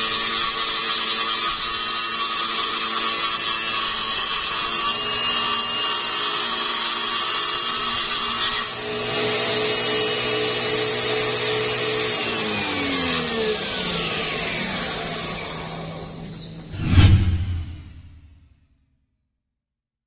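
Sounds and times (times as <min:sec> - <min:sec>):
table saw blade whining: 0:00.0 - 0:17.5.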